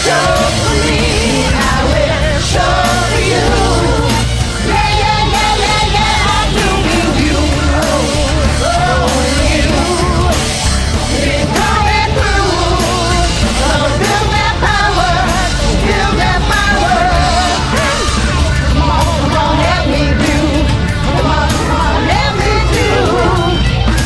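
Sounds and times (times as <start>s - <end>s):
backing track with steady beat: 0.0s - 24.0s
person singing karaoke: 0.0s - 24.0s.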